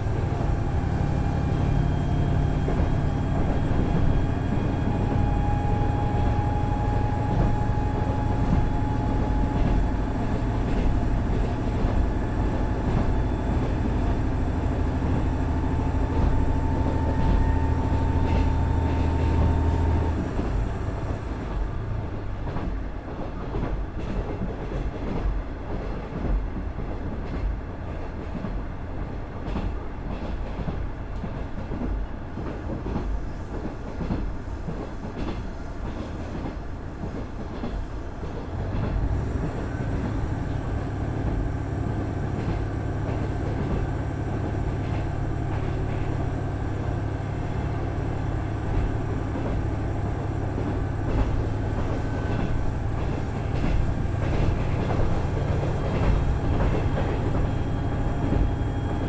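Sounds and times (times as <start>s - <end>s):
diesel railcar engine: 0.0s - 59.0s
rail joint clicks: 0.0s - 59.0s.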